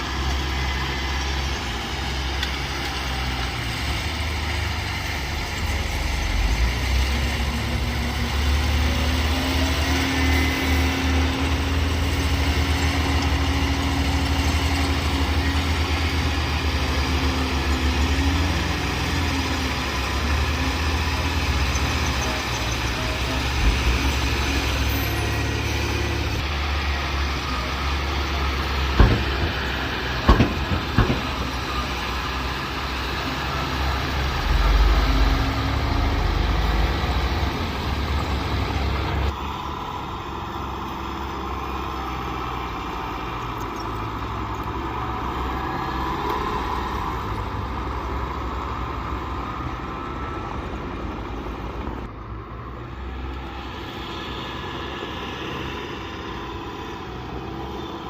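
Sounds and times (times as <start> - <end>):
heavy machinery diesel engines: 0.0 - 58.0.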